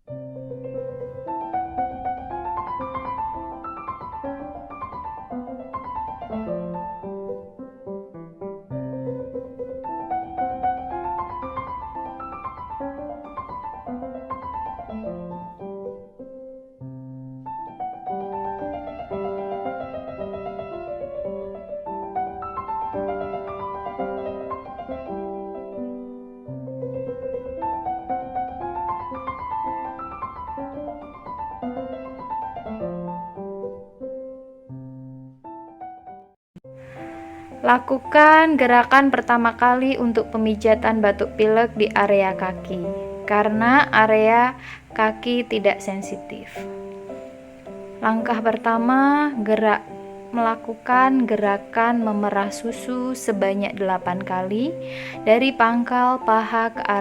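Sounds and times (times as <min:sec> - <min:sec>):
piano melody: 0:00.0 - 0:57.0.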